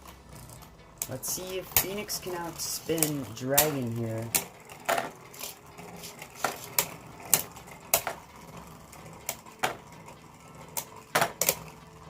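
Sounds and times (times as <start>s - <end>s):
spinning tops clicking together: 0.1s - 12.0s.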